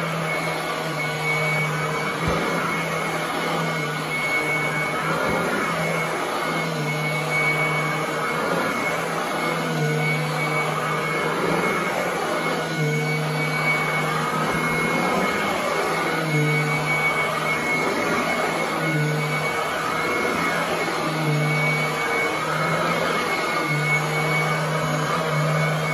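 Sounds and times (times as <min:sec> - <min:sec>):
vacuum cleaner whining on carpet: 0:00.0 - 0:25.9.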